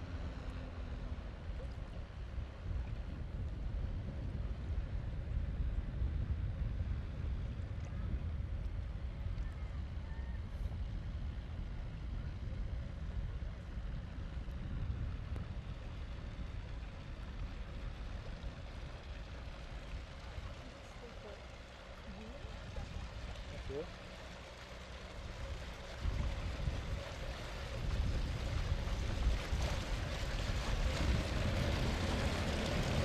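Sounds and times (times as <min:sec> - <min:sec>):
boat motor rumbling: 0:00.0 - 0:33.0
wind buffeting microphone: 0:01.0 - 0:21.5, 0:24.5 - 0:33.0.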